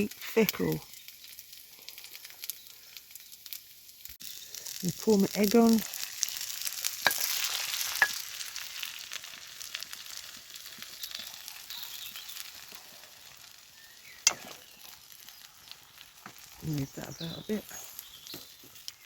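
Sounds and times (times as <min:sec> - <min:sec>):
egg sizzling in a frying pan: 0:00.0 - 0:19.0.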